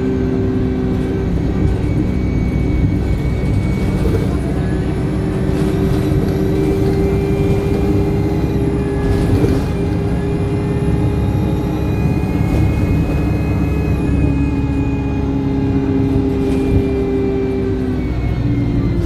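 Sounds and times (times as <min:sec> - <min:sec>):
bus diesel engine running: 0:00.0 - 0:19.0
turbocharger whine: 0:00.0 - 0:19.0.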